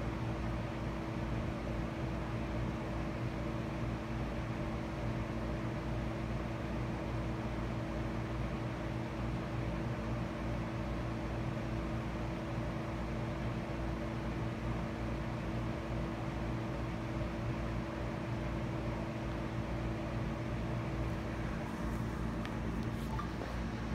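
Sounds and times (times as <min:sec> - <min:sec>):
steady mechanical hum: 0:00.0 - 0:23.9.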